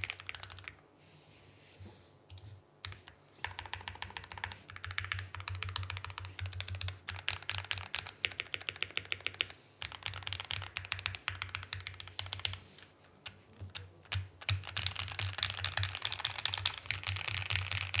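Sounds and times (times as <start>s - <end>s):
mechanical keyboard typing: 0.0s - 0.8s, 2.3s - 18.0s.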